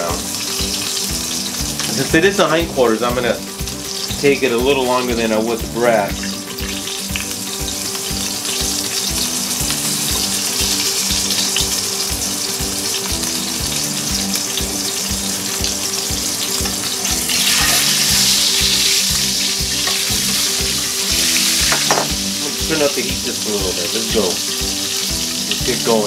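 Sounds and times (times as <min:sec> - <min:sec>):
background music with beat: 0:00.0 - 0:26.0
chicken sizzling in hot oil: 0:00.0 - 0:26.0.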